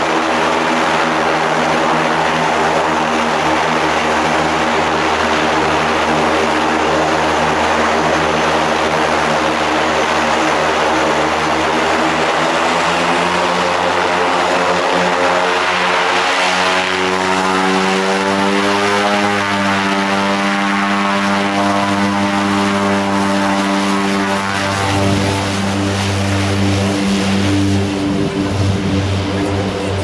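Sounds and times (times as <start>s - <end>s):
propeller aircraft engine: 0.0s - 30.0s.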